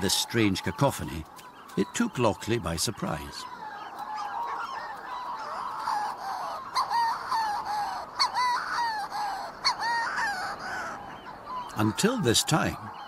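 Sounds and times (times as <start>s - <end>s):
seabirds crowing calls: 0.0s - 13.0s.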